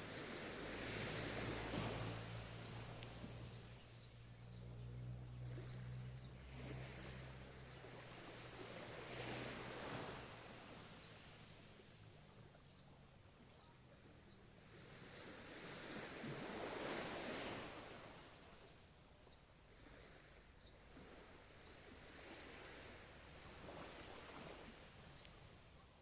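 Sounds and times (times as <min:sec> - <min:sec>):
ocean waves breaking: 0:00.0 - 0:25.8.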